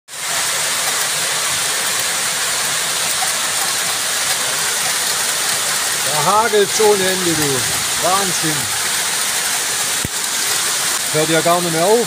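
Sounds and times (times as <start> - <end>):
hail and heavy rain pelting: 0.1 - 12.0
hailstones ticking: 0.3 - 12.0.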